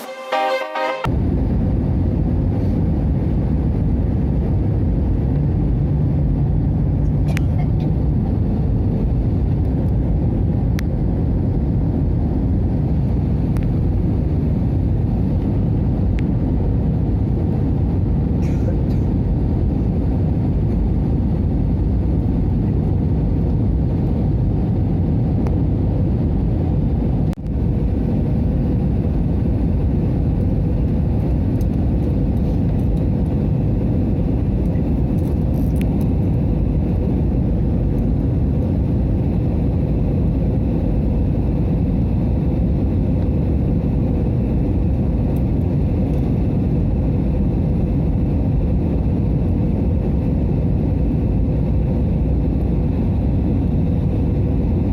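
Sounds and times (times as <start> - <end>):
aircraft cabin engine rumble: 1.1 - 54.9.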